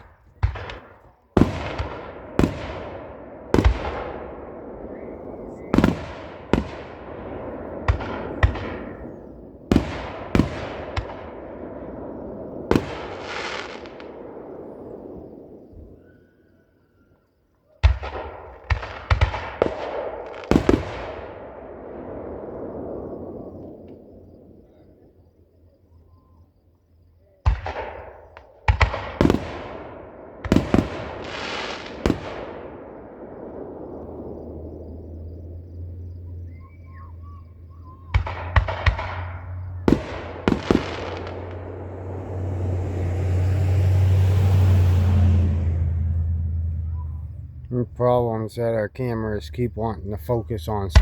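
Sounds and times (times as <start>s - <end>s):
fireworks crackling: 0.0s - 15.6s, 17.9s - 21.3s, 27.5s - 51.0s
firework shells booming: 0.0s - 16.3s, 17.7s - 51.0s.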